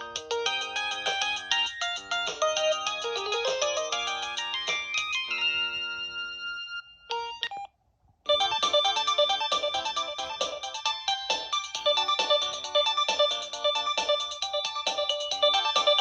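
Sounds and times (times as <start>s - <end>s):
mobile phone ringtone melody: 0.0s - 7.6s, 8.3s - 16.0s.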